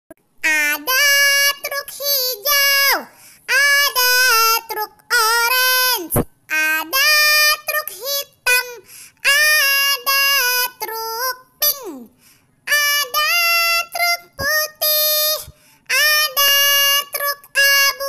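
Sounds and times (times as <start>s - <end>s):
child-like voice singing: 0.4s - 18.0s.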